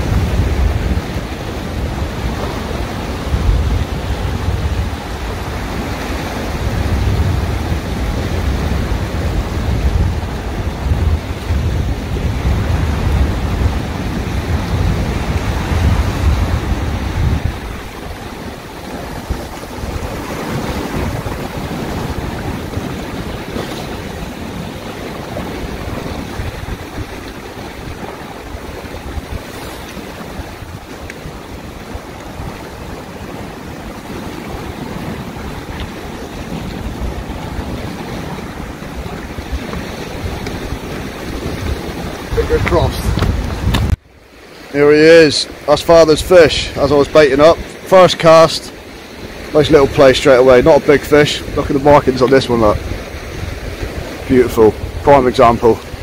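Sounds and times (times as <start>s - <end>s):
waves breaking around rocks: 0.0s - 56.0s
wind buffeting microphone: 0.0s - 56.0s.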